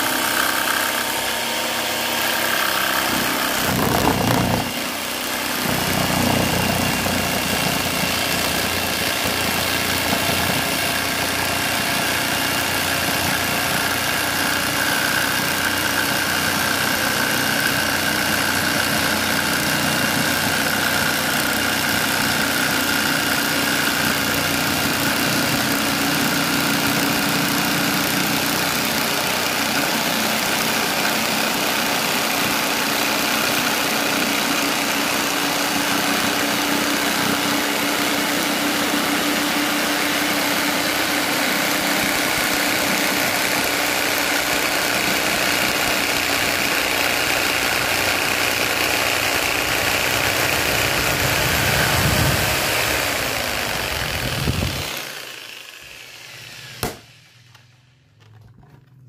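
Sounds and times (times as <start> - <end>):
electric jigsaw cutting plastic: 0.0 - 58.8.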